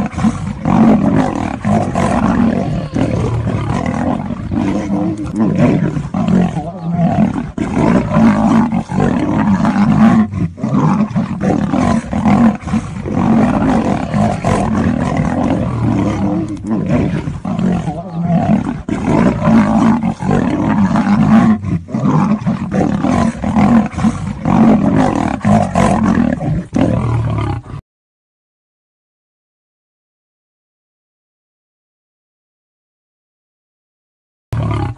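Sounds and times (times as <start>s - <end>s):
lion and tiger roaring: 0.0s - 27.8s, 34.6s - 34.9s.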